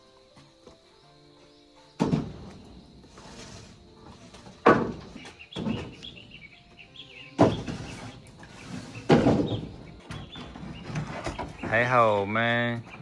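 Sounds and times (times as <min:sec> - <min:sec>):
birds chirping faintly: 0:00.0 - 0:13.0
wooden boards knocking: 0:02.0 - 0:13.0.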